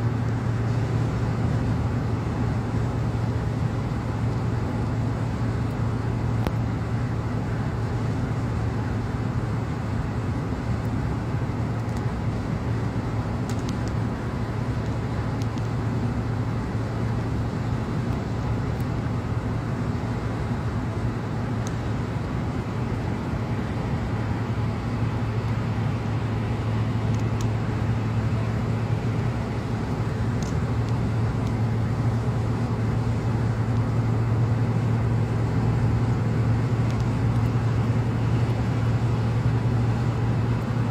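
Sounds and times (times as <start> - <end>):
low hum: 0.0 - 40.9
road and tyre noise: 0.0 - 40.9.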